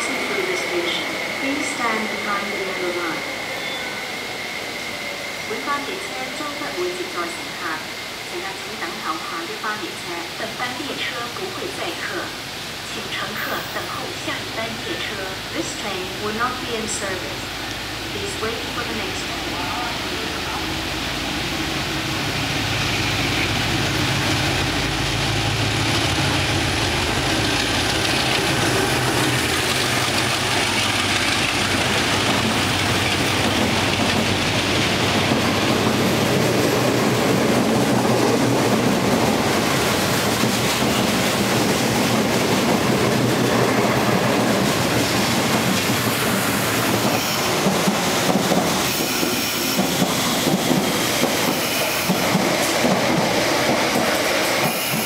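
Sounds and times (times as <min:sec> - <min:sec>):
passenger coaches rolling past: 0:00.0 - 0:55.0.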